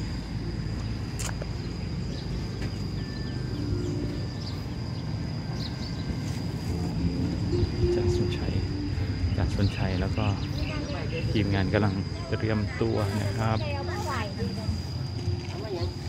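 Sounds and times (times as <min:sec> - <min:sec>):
high-pitched insect drone: 0:00.0 - 0:16.0
low rumble: 0:00.0 - 0:16.0.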